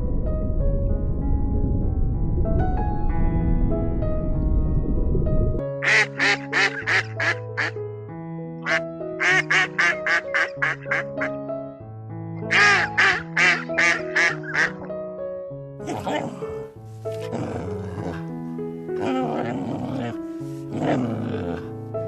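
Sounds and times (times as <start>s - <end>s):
background music sustained notes: 0.0s - 22.0s.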